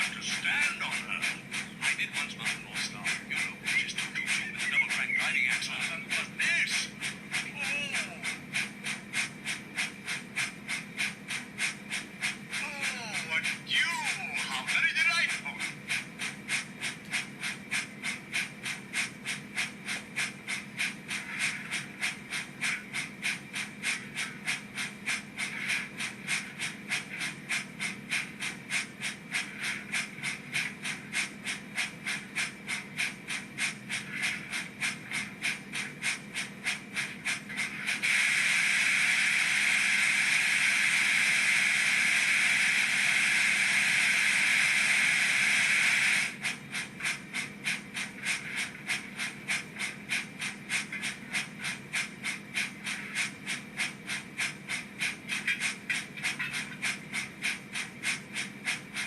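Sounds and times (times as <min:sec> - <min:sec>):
model steam locomotive chuffs: 0:00.0 - 0:59.0.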